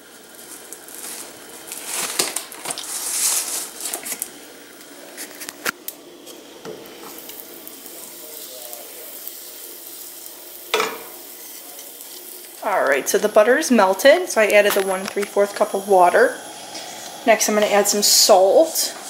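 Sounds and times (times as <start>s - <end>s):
butter sizzling in a saucepan: 0.0s - 19.0s.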